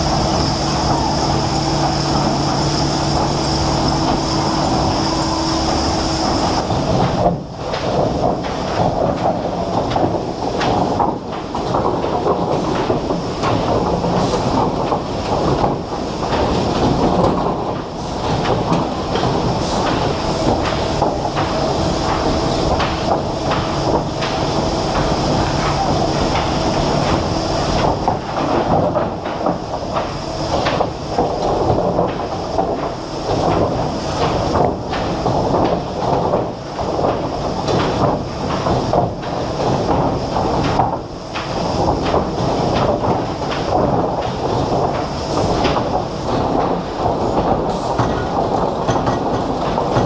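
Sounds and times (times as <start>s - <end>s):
heavy machinery rumbling and rattling: 0.0s - 50.0s.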